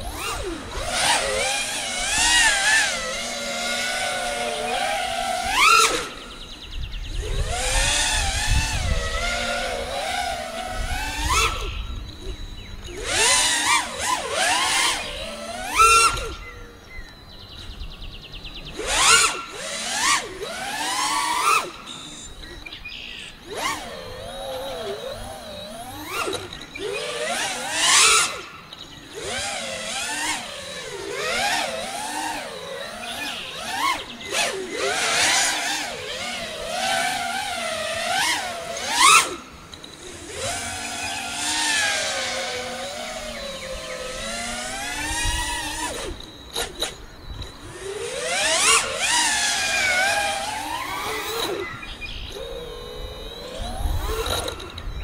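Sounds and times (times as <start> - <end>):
drone motors buzzing whine: 0.0 - 55.0.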